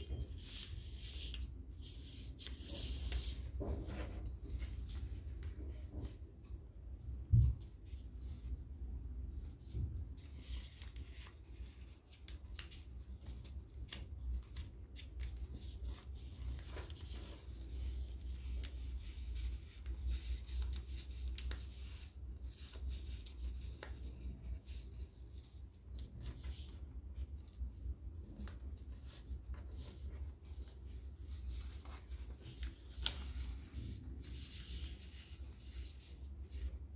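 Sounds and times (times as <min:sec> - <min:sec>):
paper rustling and creasing: 0:00.0 - 0:06.2, 0:09.5 - 0:36.9.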